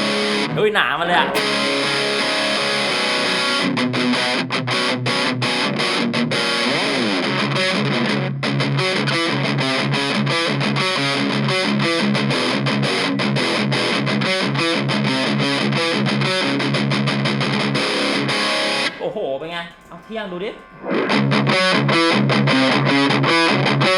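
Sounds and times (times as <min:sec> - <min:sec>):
distorted electric guitar riff: 0:00.0 - 0:23.9.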